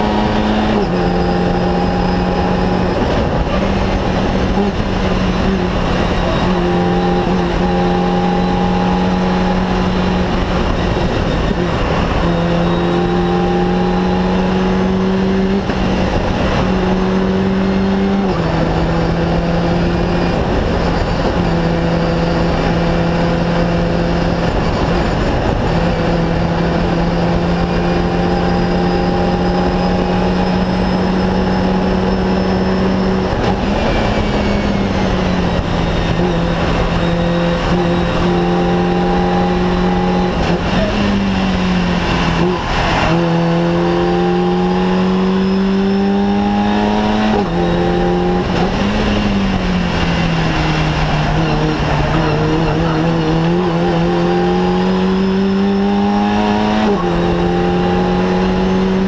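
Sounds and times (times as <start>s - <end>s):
race car engine at high revs: 0.0s - 59.0s
road and wind noise: 0.0s - 59.0s.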